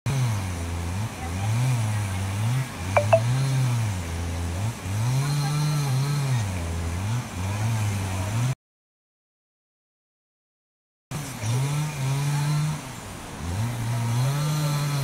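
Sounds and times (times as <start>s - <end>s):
engine revving: 0.1s - 8.5s, 11.2s - 15.0s.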